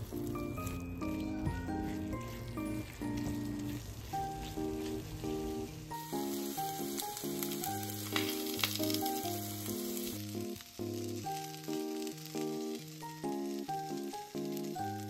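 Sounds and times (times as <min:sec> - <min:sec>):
background music: 0:00.0 - 0:15.0
food sizzling in a frying pan: 0:00.0 - 0:15.0.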